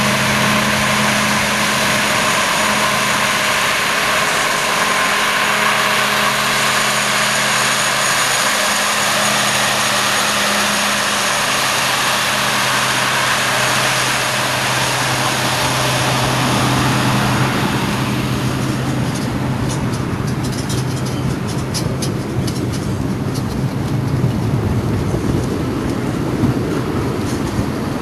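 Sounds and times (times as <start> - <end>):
diesel locomotive engine drone: 0.0 - 28.0
wagon wheels rattling over rails: 0.0 - 28.0.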